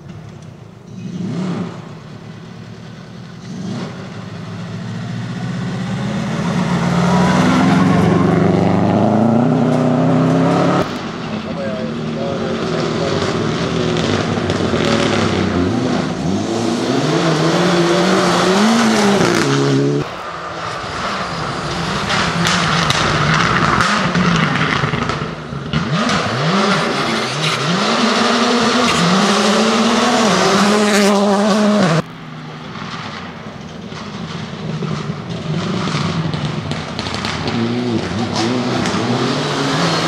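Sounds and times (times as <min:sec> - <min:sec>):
rally car engine revving: 0:00.8 - 0:40.0.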